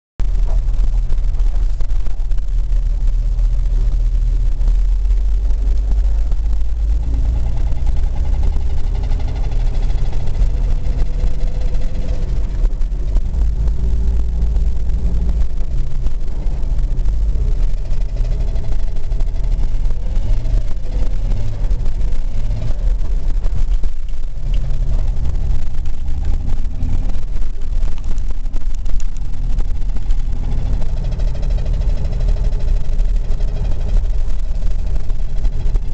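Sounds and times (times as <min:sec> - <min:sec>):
car engine rumbling: 0:00.2 - 0:35.9.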